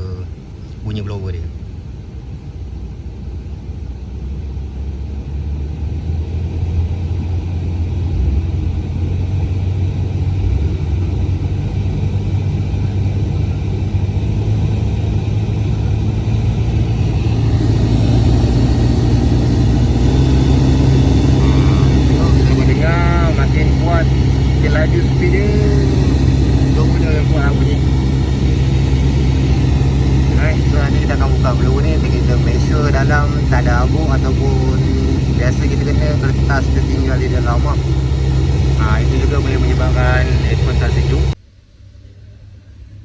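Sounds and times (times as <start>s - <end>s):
blower fan drone: 0.0s - 43.0s.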